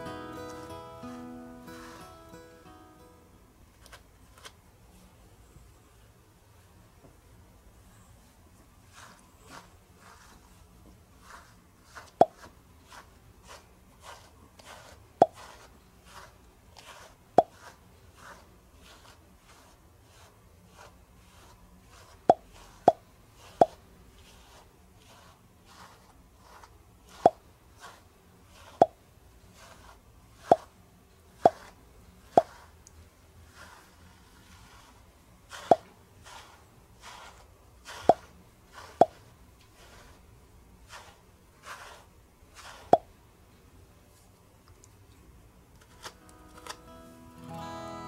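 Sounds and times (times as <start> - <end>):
brush stroking through fur: 0.0 - 2.7, 3.7 - 6.1, 7.8 - 43.2.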